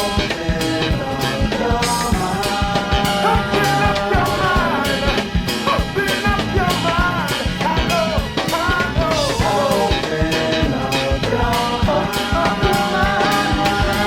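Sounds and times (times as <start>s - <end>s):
band song playing: 0.0s - 14.0s.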